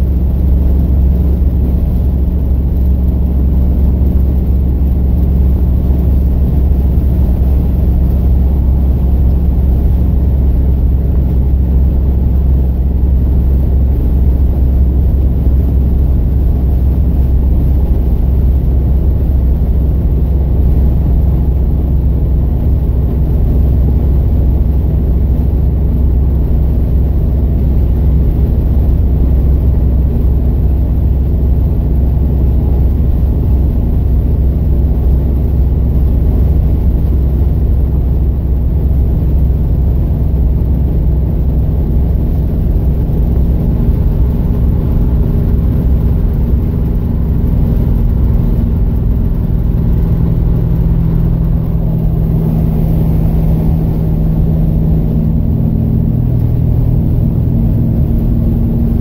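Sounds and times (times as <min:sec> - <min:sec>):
car interior road drone: 0:00.0 - 0:59.0.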